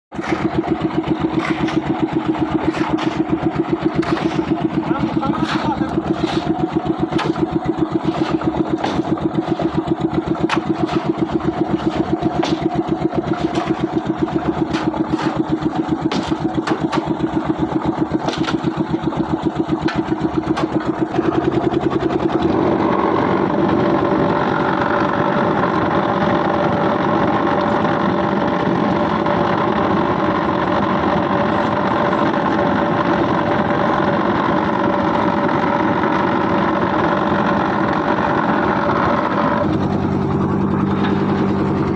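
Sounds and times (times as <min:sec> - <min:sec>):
machinery engine running: 0:00.1 - 0:41.9.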